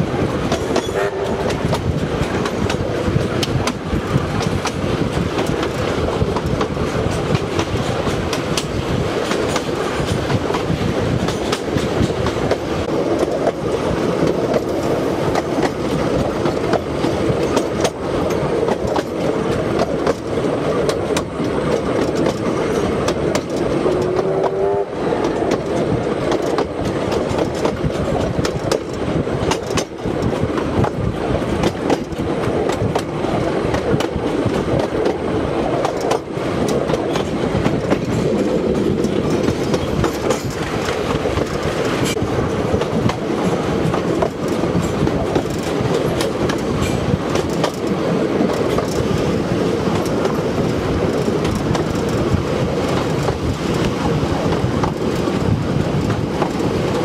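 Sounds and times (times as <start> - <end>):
train carriages rumbling: 0.0 - 57.0
wheels clattering on track: 0.0 - 57.0.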